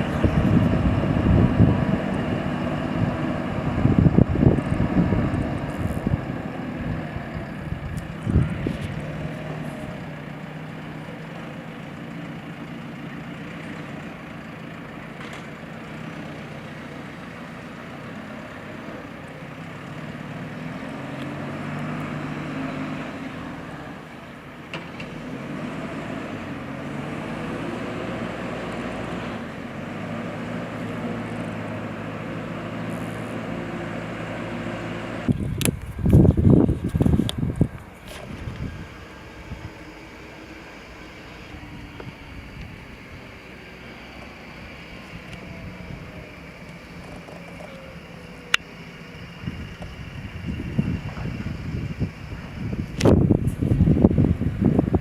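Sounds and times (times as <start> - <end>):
construction machine diesel engine: 0.0 - 55.0.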